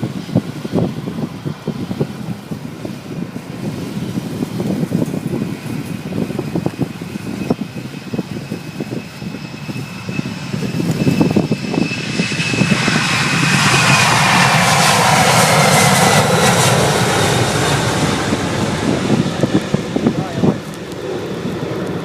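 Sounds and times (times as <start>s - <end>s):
high engine whine: 0.0s - 22.0s
jet airliner passing: 0.0s - 22.0s
wind buffeting microphone: 0.0s - 22.0s.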